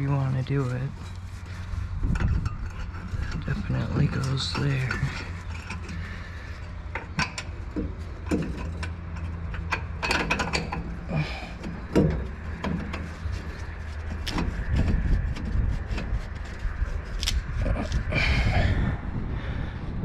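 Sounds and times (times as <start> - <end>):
steady low hum: 0.0 - 20.0
hand tools clicking and knocking: 0.9 - 18.1.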